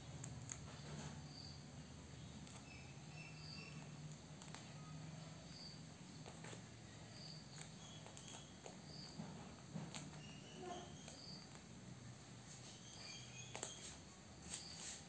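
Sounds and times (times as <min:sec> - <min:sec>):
faint high chirp: 0:01.2 - 0:09.3, 0:10.1 - 0:11.7, 0:12.5 - 0:15.0.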